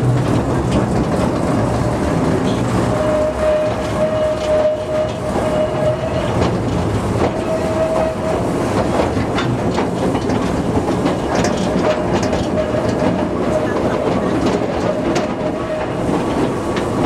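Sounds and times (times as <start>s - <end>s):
train engine and wheels rumbling: 0.0s - 17.0s
wheels clicking over track: 0.0s - 17.0s.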